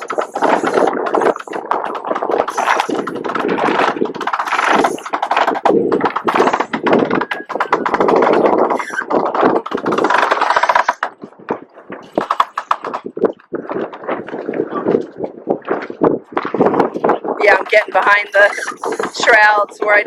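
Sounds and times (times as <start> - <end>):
sail flapping in wind: 0.0 - 20.0.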